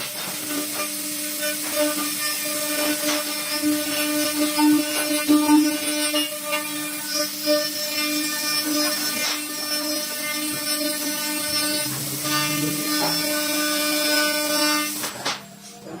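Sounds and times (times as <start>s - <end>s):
wood cutting noise: 0.0s - 16.0s
wood lathe whine: 0.0s - 16.0s.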